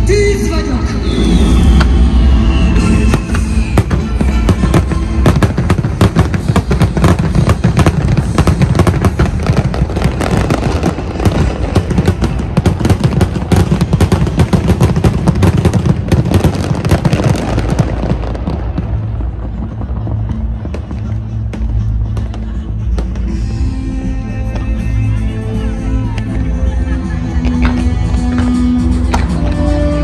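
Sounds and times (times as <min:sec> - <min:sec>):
fireworks bangs and crackles: 0:01.0 - 0:30.0.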